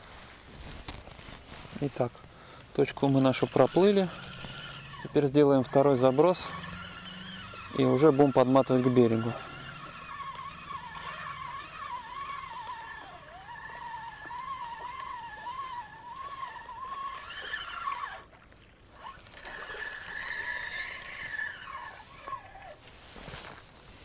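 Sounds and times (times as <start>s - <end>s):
motor droning with wavering pitch: 2.8s - 22.8s.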